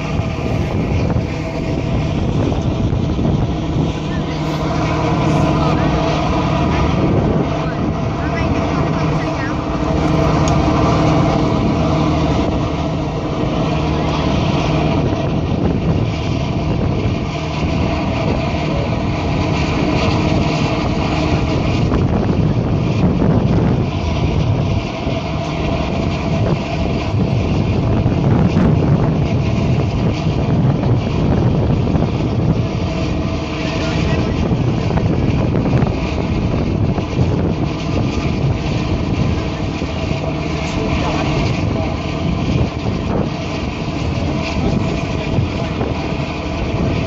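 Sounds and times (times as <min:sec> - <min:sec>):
boat engine drone: 0:00.0 - 0:47.0
wind on microphone: 0:00.0 - 0:47.0.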